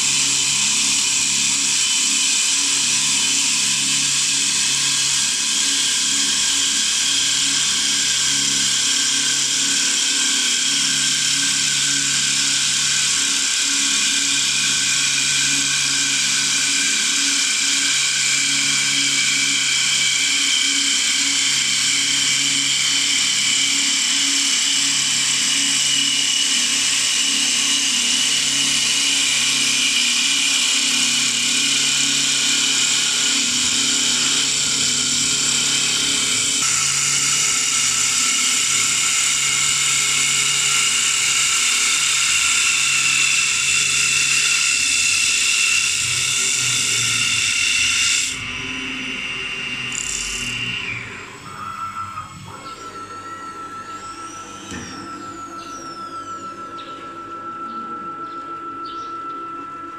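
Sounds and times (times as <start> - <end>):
lathe spindles whining: 0.0 - 59.9
wood being cut: 0.0 - 59.9.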